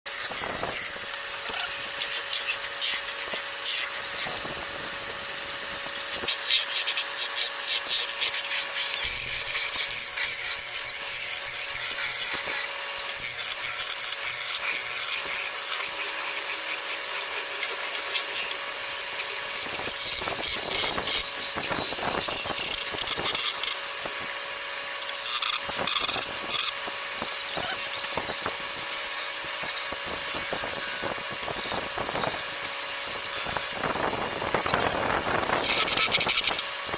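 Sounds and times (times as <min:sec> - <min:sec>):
tool scraping wood: 0:00.1 - 0:36.9.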